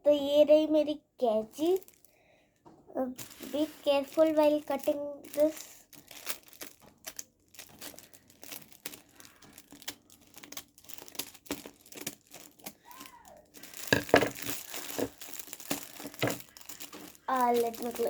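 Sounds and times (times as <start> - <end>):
wrapping paper crinkling and tearing: 1.6 - 2.1, 3.1 - 18.0.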